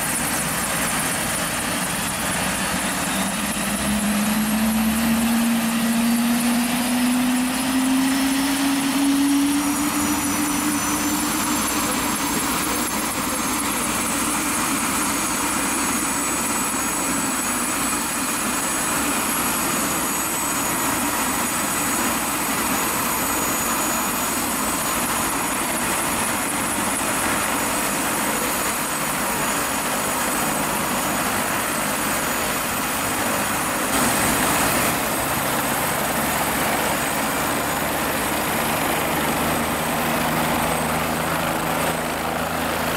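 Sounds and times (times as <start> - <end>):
helicopter rotor and engine noise: 0.0 - 42.9
turbine whine: 0.0 - 42.9.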